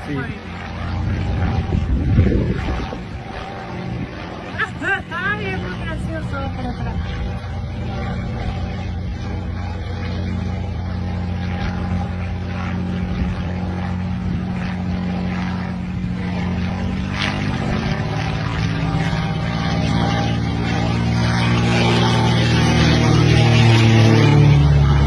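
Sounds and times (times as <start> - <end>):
low engine drone: 0.0 - 25.0.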